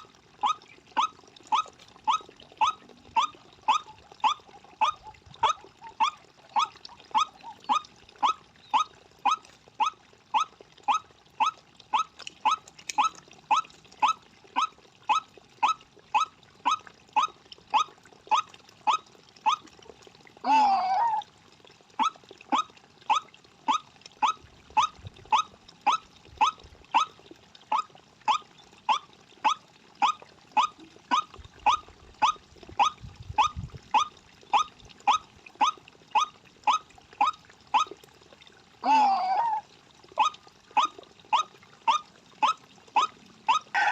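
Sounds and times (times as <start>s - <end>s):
waterhen calling: 0.0s - 43.9s.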